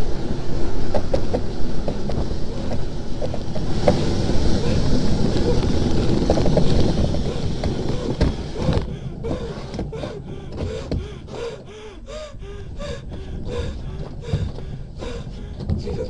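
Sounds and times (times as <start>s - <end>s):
bobsleigh rumble: 0.0s - 16.0s.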